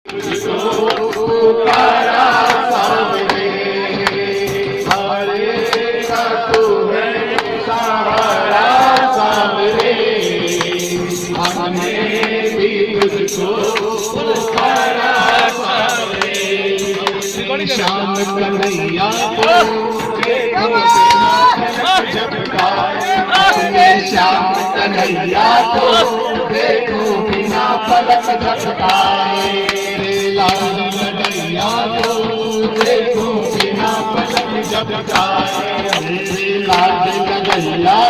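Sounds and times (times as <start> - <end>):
clapping beat: 0.1 - 38.0
group singing: 0.1 - 38.0.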